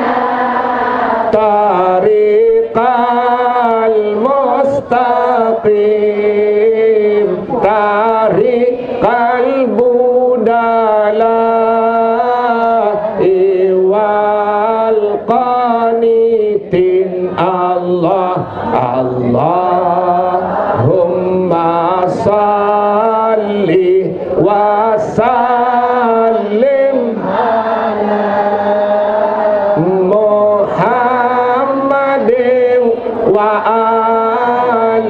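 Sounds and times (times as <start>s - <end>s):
man chanting into a microphone: 1.2s - 35.0s.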